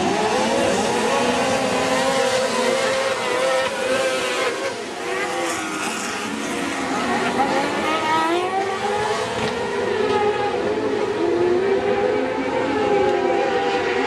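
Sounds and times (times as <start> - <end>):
motor engines revving: 0.0 - 14.0.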